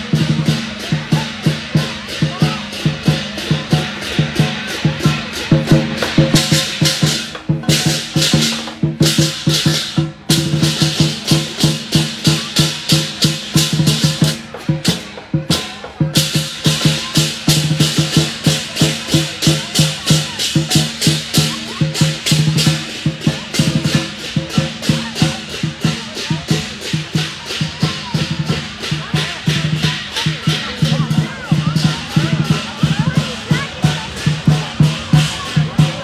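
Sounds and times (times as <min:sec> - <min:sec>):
cymbals clashing: 0:00.0 - 0:36.0
drum beating steady rhythm: 0:00.0 - 0:36.0.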